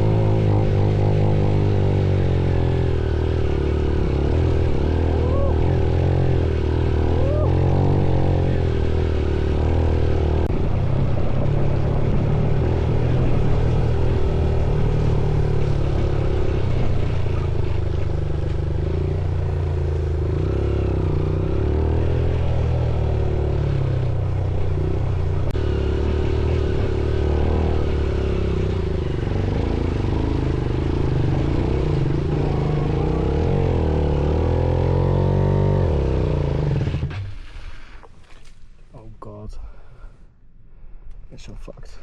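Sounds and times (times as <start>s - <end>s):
motorcycle engine revving: 0.0s - 38.5s.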